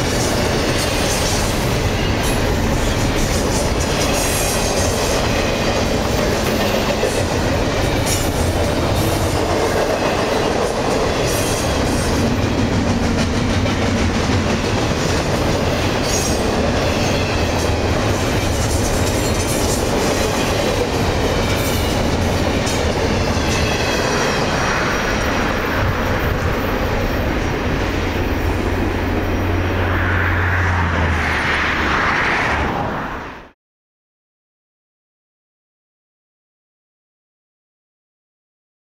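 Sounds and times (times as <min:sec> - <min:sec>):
freight train wheels rumbling on rail: 0:00.0 - 0:33.2.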